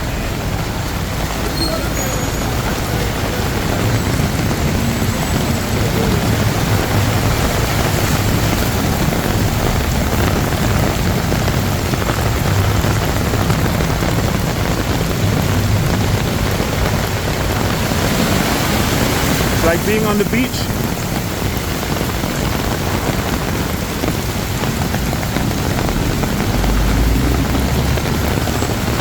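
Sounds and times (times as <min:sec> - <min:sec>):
heavy rain hissing: 0:00.0 - 0:29.0
vehicle engines rumbling: 0:00.0 - 0:29.0.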